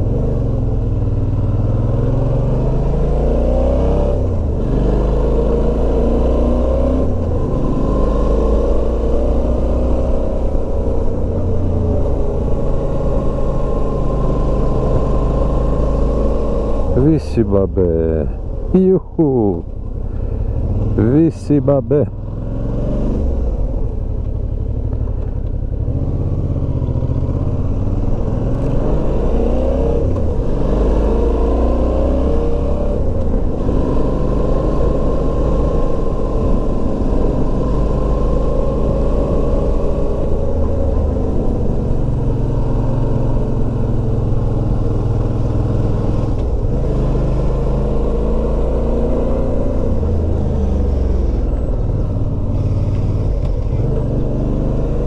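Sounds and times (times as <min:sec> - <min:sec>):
motorcycle engine running: 0:00.0 - 0:31.4, 0:32.3 - 0:55.0.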